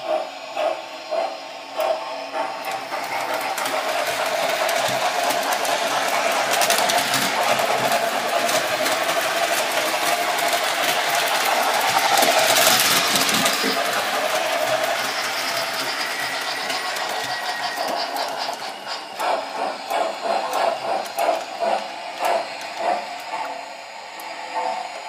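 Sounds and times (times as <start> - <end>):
model train motor whirring: 0.0 - 24.5
speaker steam sounds: 0.0 - 25.0.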